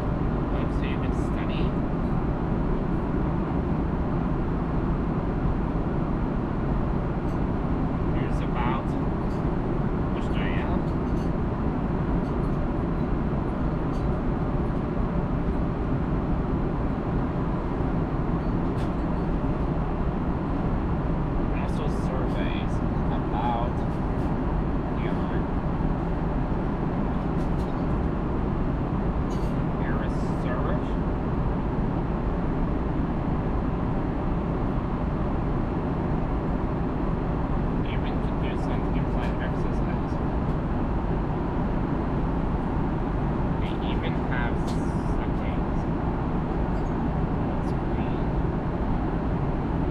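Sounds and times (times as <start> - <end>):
airliner cabin engine rush: 0.0 - 49.9.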